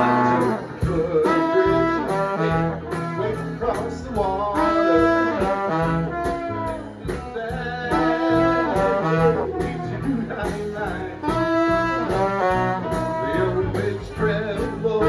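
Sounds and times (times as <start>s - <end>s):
horns playing melody: 0.0s - 15.0s
swing band playing: 0.0s - 15.0s.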